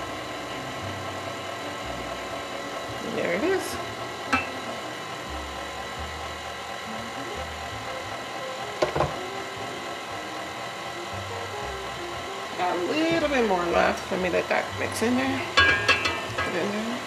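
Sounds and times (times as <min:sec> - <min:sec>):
stand mixer motor whine: 0:00.0 - 0:17.0.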